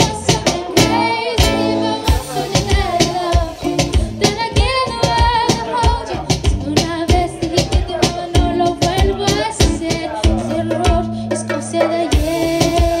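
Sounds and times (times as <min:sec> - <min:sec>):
steady drum beat: 0:00.0 - 0:13.0
woman singing: 0:00.0 - 0:13.0.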